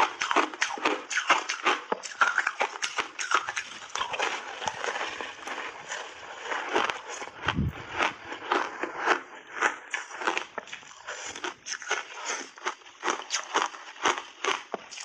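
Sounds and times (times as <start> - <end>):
crunching ice between teeth: 0.0 - 15.0.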